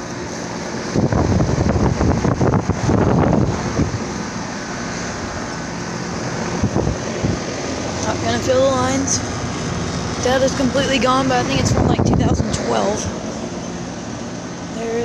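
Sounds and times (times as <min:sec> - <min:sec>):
air conditioner unit humming: 0:00.0 - 0:15.0
wind buffeting microphone: 0:00.6 - 0:14.3.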